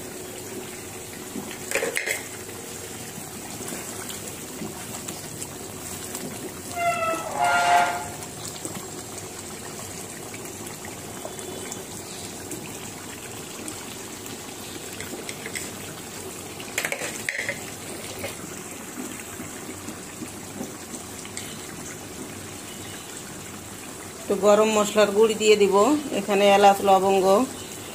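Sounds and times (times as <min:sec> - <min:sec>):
curry bubbling in a pot: 0:00.0 - 0:27.9.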